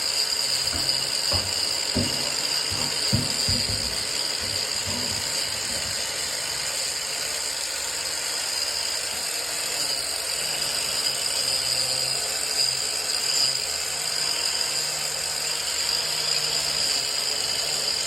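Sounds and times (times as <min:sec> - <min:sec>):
power tool whining: 0:00.0 - 0:18.0.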